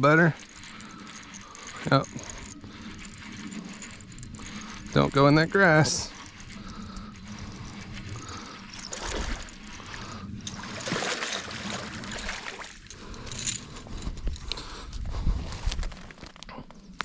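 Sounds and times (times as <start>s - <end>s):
fish splashing and thrashing: 0.0s - 16.4s.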